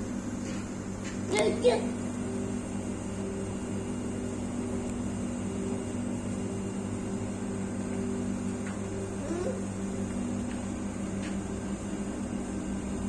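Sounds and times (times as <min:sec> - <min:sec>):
refrigerated cooler humming: 0:00.0 - 0:13.0.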